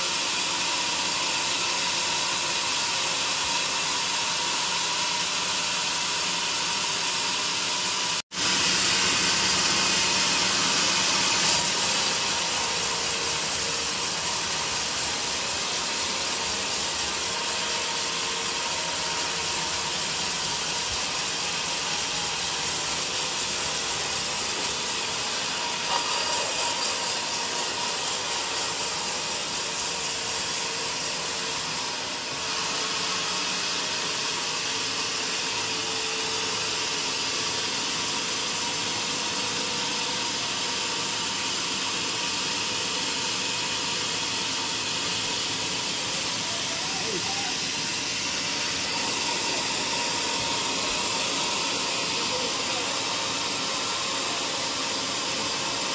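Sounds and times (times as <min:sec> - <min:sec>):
band sawmill cutting log: 0:00.0 - 0:55.9.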